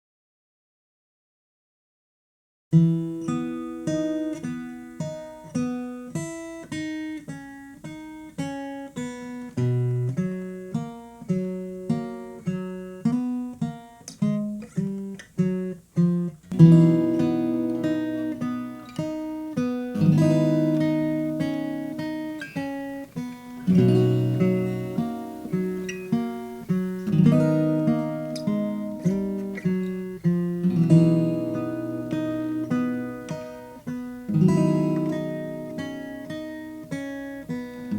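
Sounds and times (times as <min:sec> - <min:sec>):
acoustic guitar playing: 0:02.7 - 0:37.9.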